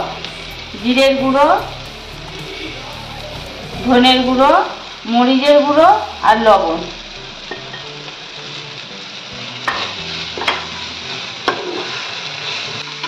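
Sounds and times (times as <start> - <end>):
vegetables sizzling in pan: 0.0 - 13.0.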